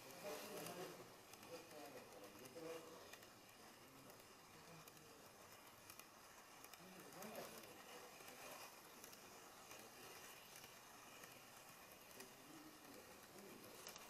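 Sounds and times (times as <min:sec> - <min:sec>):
faint clicks: 0:00.0 - 0:14.0
faint hiss: 0:00.0 - 0:14.0.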